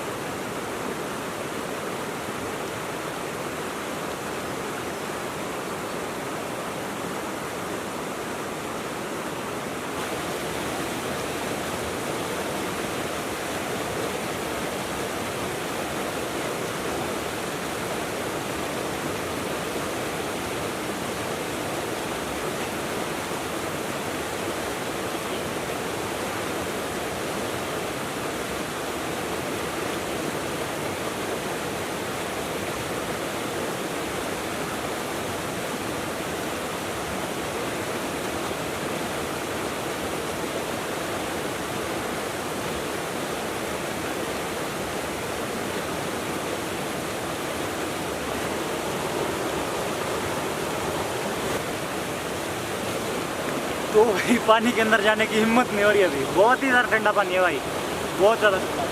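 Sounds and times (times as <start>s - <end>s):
river rushing: 0.0s - 58.9s.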